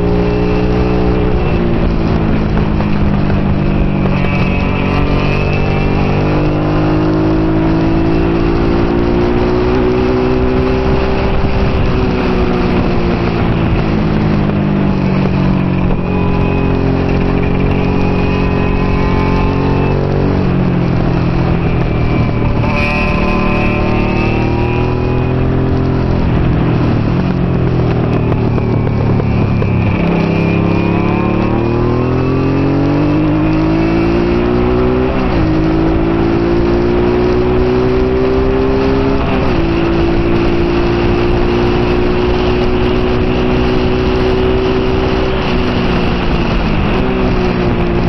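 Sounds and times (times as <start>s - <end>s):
motorcycle engine revving: 0.0s - 48.0s
wind and road noise: 0.0s - 48.0s.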